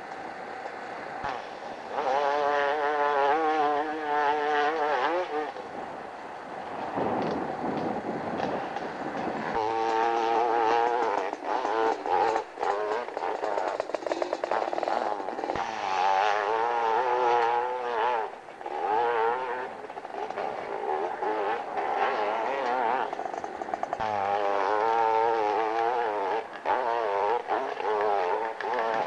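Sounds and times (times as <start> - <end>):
motorcycle engines revving hard: 1.0 - 29.0.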